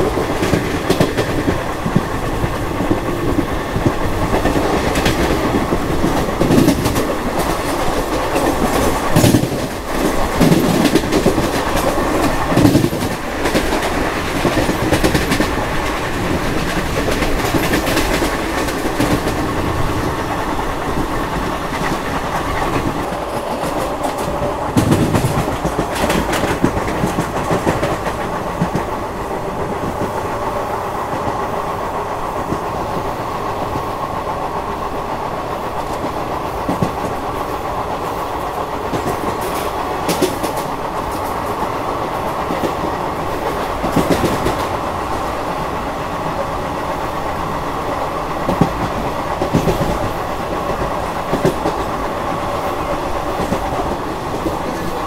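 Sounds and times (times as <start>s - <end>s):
train wheels clattering over rail joints: 0.0s - 31.4s, 35.8s - 46.4s, 47.0s - 55.0s.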